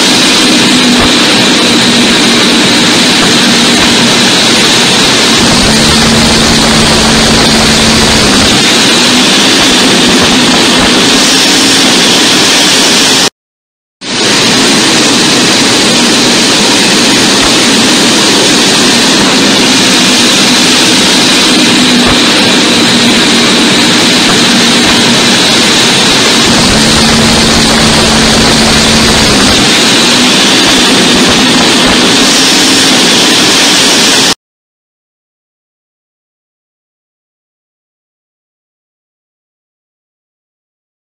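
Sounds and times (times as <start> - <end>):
jet engine cockpit roar: 0.0 - 13.3, 14.0 - 34.4.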